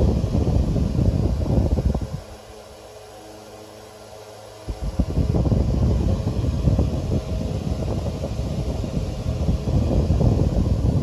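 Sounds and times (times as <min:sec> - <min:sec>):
desk fan motor hum: 0:00.0 - 0:11.0
fan air buffeting microphone: 0:00.0 - 0:11.0.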